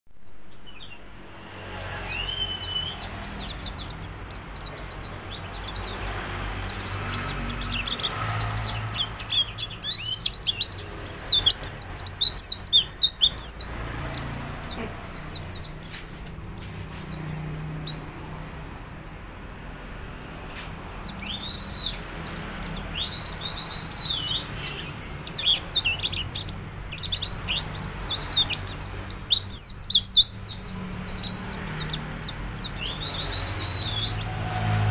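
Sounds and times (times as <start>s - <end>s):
bird chirping and twittering: 0.1s - 34.9s.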